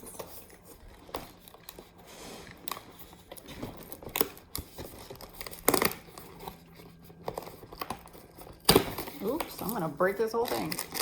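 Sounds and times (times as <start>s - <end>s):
cardboard packaging crinkling: 0.0s - 11.0s
cardboard rustling: 0.0s - 11.0s.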